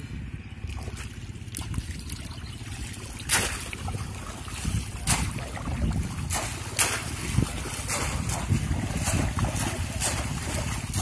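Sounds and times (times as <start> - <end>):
wind rumble on microphone: 0.0 - 11.0
water splashing: 0.7 - 11.0.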